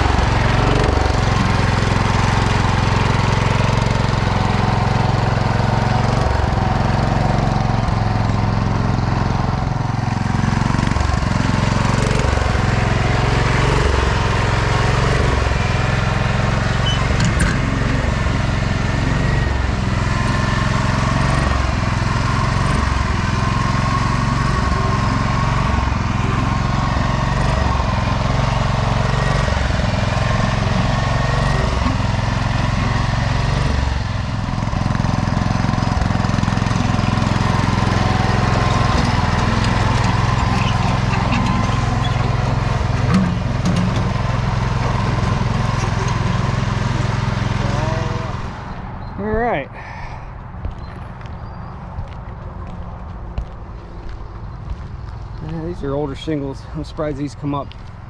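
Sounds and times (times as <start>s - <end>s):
garden tractor engine running: 0.0s - 51.6s, 53.4s - 58.0s.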